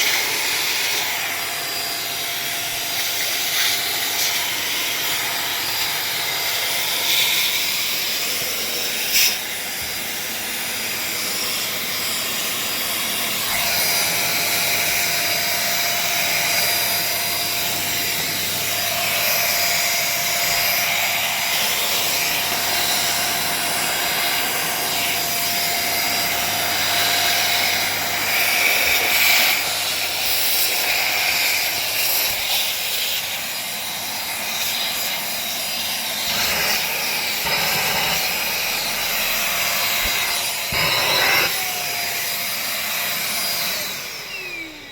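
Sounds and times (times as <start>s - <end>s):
handheld vacuum cleaner running: 0.0s - 44.9s.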